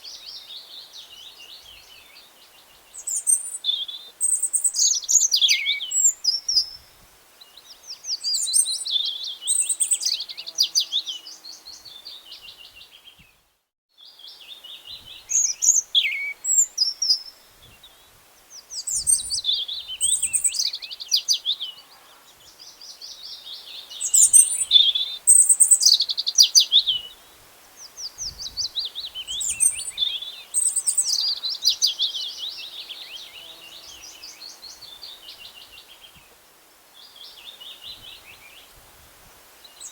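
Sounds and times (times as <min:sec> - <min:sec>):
songbirds chirping and trilling: 0:00.0 - 0:38.8.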